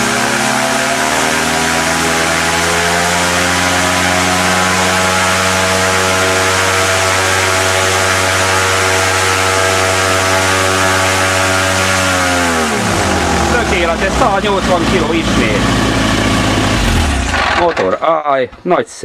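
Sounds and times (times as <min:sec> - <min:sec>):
engine running flat out: 0:00.0 - 0:18.0.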